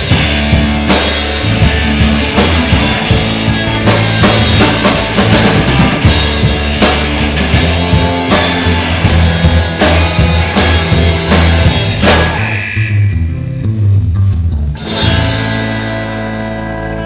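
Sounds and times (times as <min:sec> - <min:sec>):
drum kit beat: 0:00.0 - 0:17.0
electric guitars and bass: 0:00.0 - 0:17.0.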